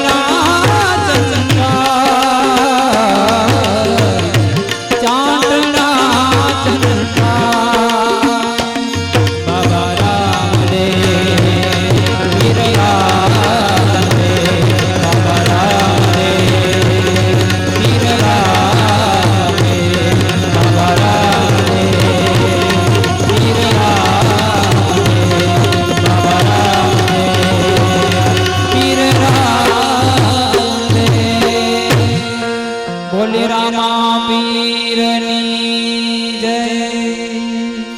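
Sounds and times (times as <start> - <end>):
tabla rhythm: 0.0 - 37.9.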